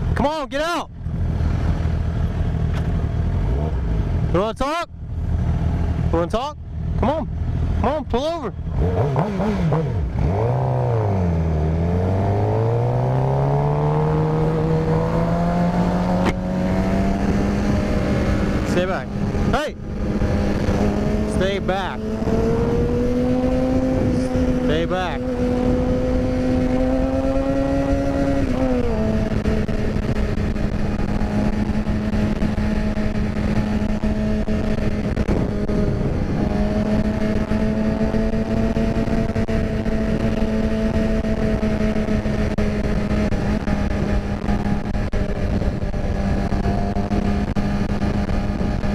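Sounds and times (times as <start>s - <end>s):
motorcycle engine revving: 0.9s - 48.9s
wind rush: 9.6s - 48.9s.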